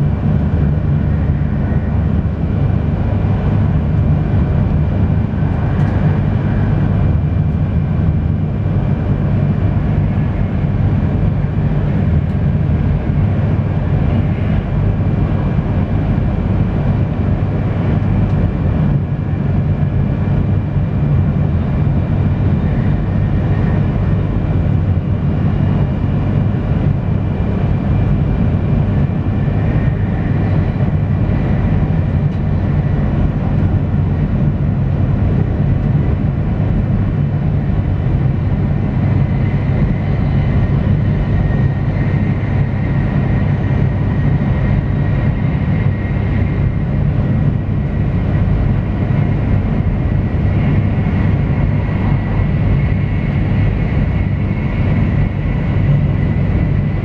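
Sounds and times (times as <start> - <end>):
faint steady whine: 0.0 - 57.0
train cabin low rumble: 0.0 - 57.0.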